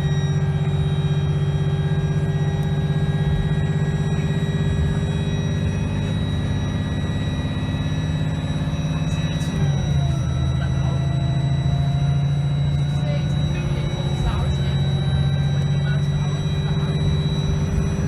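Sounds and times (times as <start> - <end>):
bus diesel engine running: 0.0 - 18.0
high steady whine: 0.0 - 18.0.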